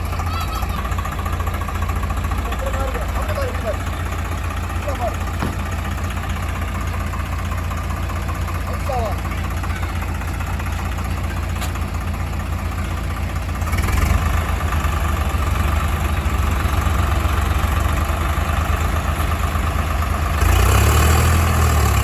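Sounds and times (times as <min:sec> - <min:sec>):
heavy diesel engines running: 0:00.0 - 0:22.0.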